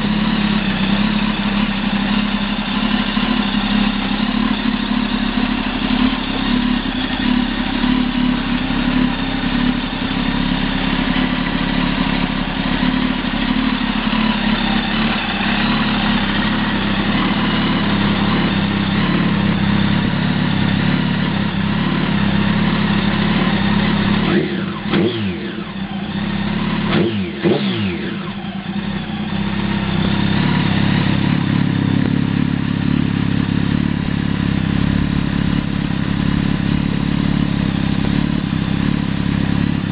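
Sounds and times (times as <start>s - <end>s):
motorcycle engine idling: 0.0s - 39.9s
motorcycle throttle blips: 0.1s - 39.9s.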